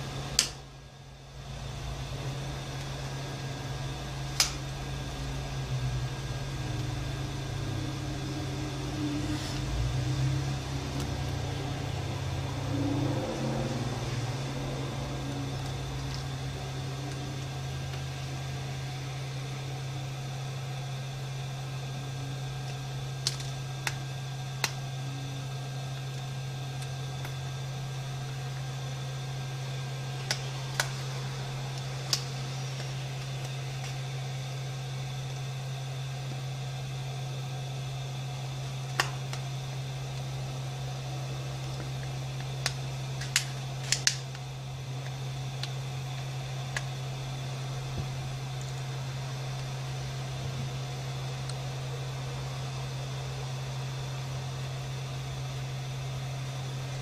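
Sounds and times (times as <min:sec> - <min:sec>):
fan or motor humming: 0:00.0 - 0:57.0.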